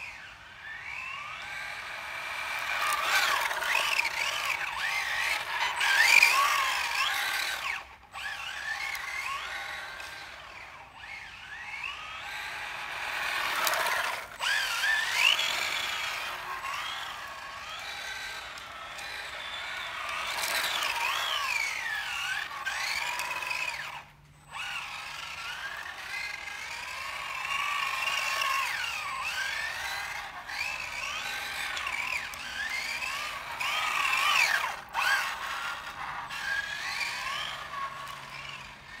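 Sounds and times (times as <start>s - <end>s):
electric toy car motor whine: 0.0s - 39.0s.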